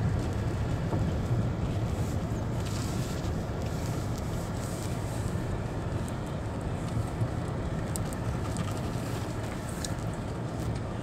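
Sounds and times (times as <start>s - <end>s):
car driving on gravel: 0.0s - 11.0s.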